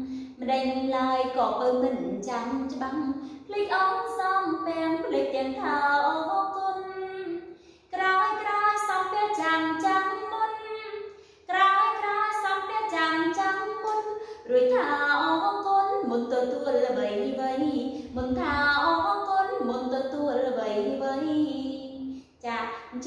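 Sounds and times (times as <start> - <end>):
woman singing unaccompanied: 0.0 - 23.0.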